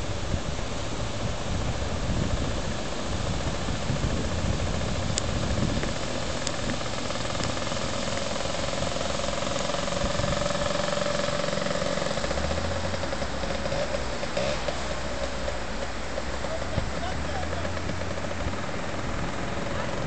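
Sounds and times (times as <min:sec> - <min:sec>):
motor scooter engine running: 0:00.0 - 0:20.0
surf: 0:00.0 - 0:20.0
wind: 0:00.0 - 0:20.0.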